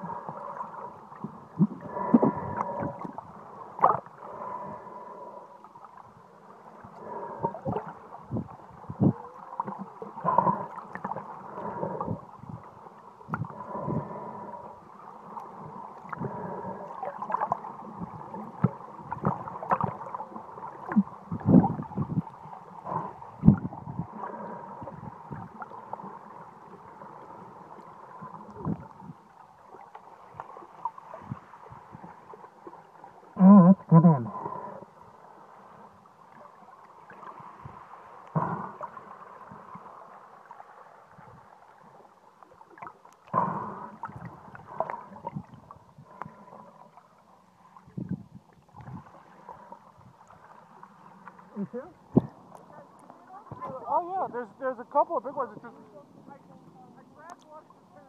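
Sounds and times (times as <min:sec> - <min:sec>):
faint steady hum: 0:00.0 - 0:58.0
underwater gurgling and sloshing: 0:00.0 - 0:58.0.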